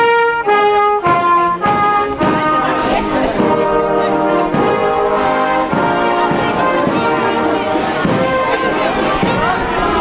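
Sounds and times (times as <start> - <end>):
marching brass band playing: 0.0 - 10.0.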